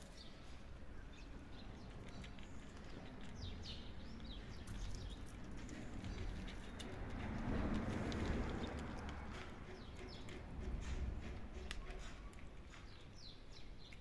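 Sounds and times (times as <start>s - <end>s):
kittens crunching dry food: 0.0s - 14.0s.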